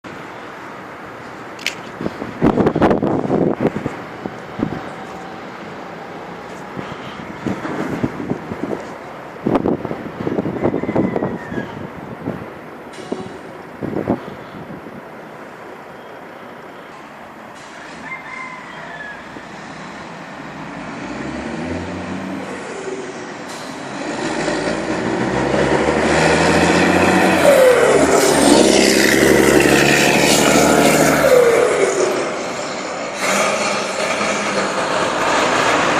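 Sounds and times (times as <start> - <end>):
diesel truck driving past: 0.0 - 35.9.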